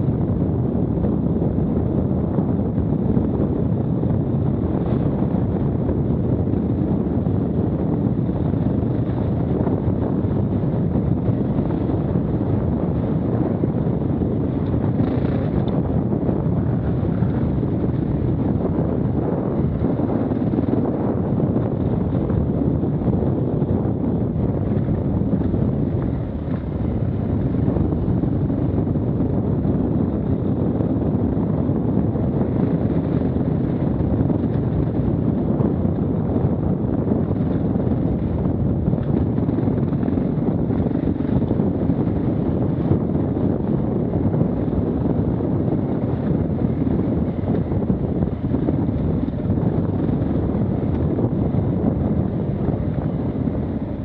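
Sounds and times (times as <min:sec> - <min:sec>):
wind rumble on microphone: 0:00.0 - 0:54.0
motorcycle engine running: 0:03.4 - 0:54.0.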